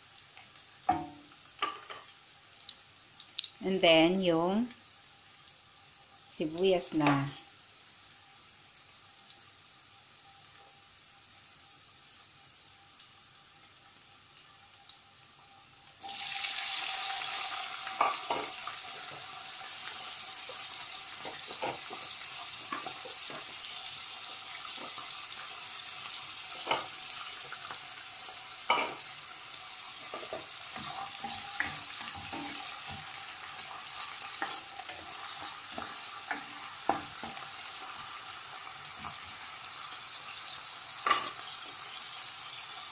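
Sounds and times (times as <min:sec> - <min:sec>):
garlic and onion sizzling in oil: 0:00.0 - 0:42.9.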